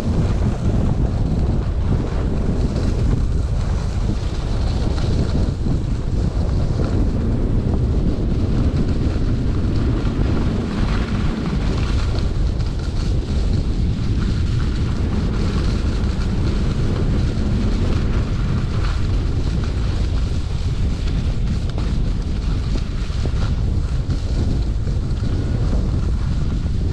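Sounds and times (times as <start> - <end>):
skis hissing over snow: 0.0 - 26.9
wind buffeting microphone: 0.0 - 26.9.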